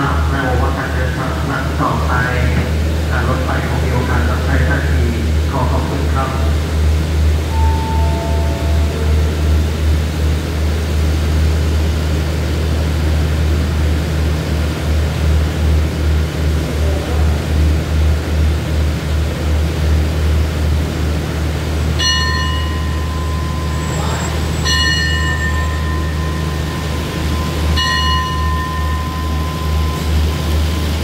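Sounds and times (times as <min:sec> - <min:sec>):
train diesel engines idling: 0:00.0 - 0:31.0.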